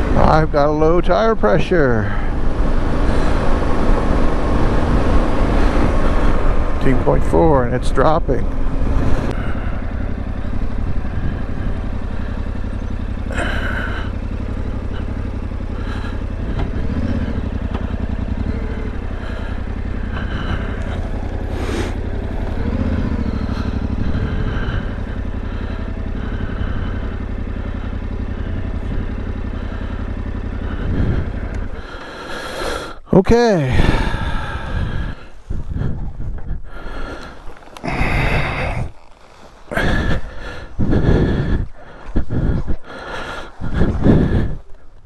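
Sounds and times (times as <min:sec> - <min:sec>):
motorcycle engine running: 0:00.0 - 0:45.0
road and wind noise: 0:00.0 - 0:45.0.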